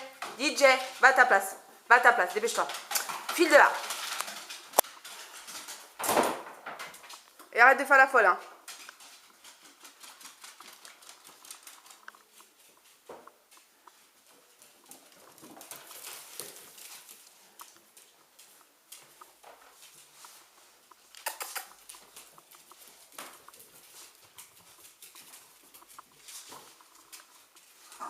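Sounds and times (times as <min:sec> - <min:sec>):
dogs scuffling: 0:00.0 - 0:28.0
dog claws clicking on hard floor: 0:02.2 - 0:07.5, 0:08.6 - 0:13.7, 0:14.6 - 0:20.4, 0:21.0 - 0:28.0.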